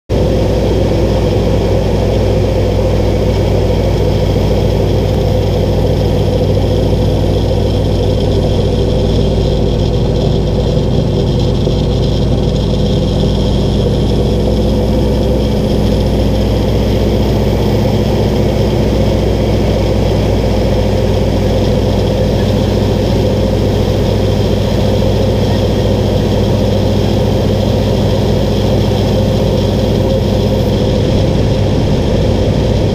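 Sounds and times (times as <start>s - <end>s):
propeller aircraft engine droning: 0.1s - 32.9s.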